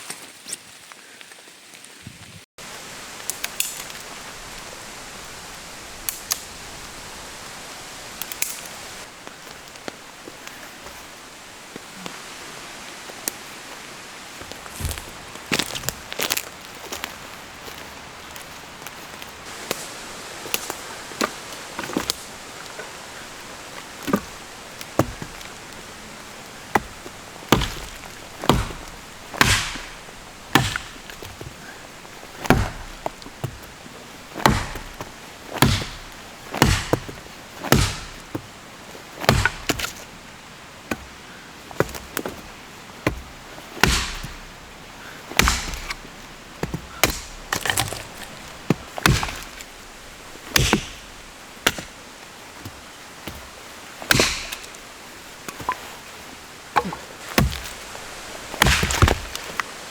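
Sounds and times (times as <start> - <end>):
wood being chopped: 3.2 - 11.1, 14.4 - 59.8.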